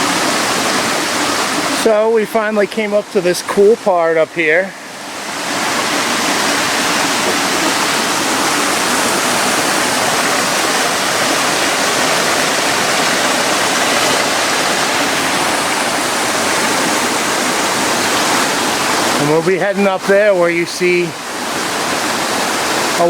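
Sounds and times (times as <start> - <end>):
stream water rushing over rocks: 0.0 - 23.0.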